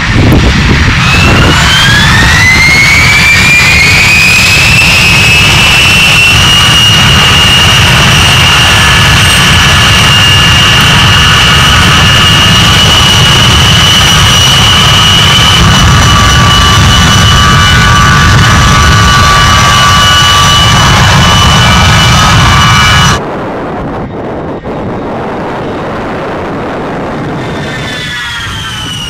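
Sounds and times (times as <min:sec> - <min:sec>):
jet engines whining and rumbling: 0:00.0 - 0:29.0.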